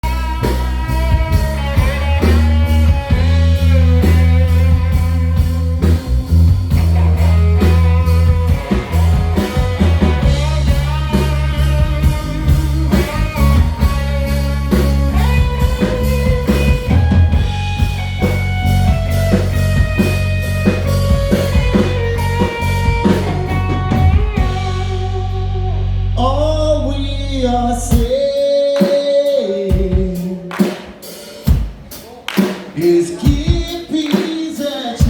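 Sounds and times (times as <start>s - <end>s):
steady drum beat: 0.0s - 26.2s, 27.9s - 35.0s
electric guitar lines: 0.0s - 28.1s
heavy bass: 0.0s - 28.6s.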